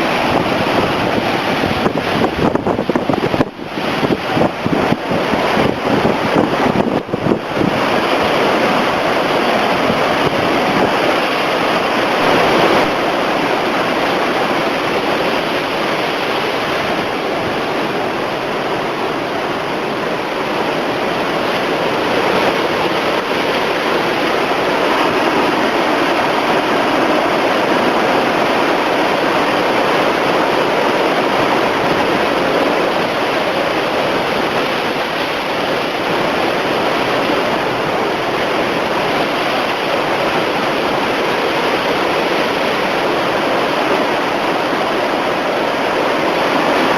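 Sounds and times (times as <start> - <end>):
heavy surf breaking on shore: 0.0 - 46.9.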